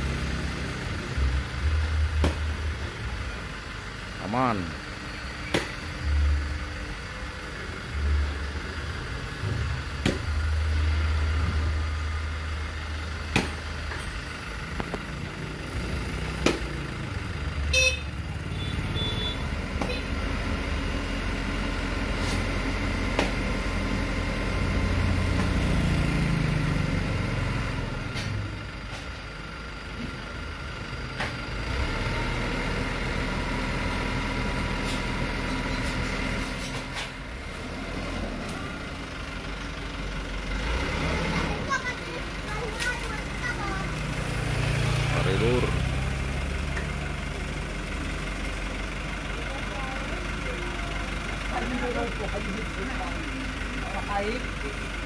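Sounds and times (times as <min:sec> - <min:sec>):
truck engine revving: 0:00.0 - 0:29.0, 0:29.6 - 0:55.0.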